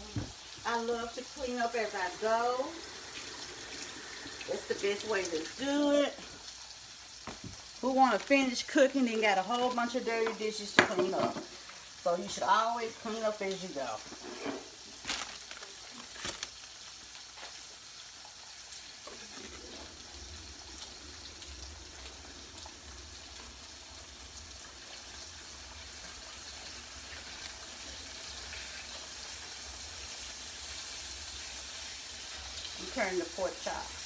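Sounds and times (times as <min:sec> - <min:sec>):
meat sizzling in a skillet: 0:00.0 - 0:34.0.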